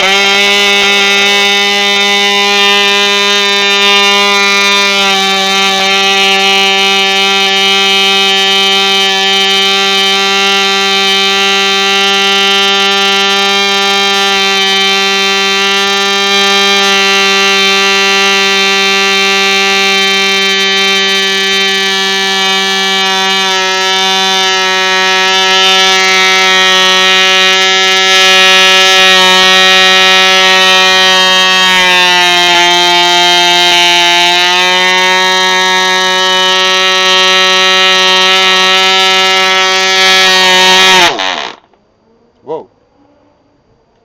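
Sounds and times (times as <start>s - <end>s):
model engine high-pitched buzz: 0.0s - 41.8s.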